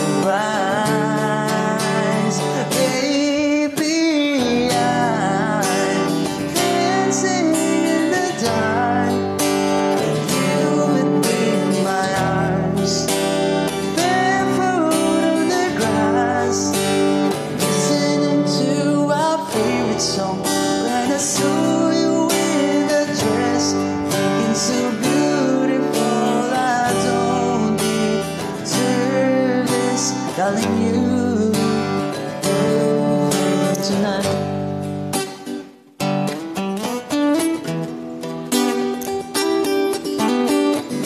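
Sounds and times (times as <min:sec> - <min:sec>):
man singing: 0:00.0 - 0:35.0
acoustic guitar strumming: 0:00.0 - 0:41.0.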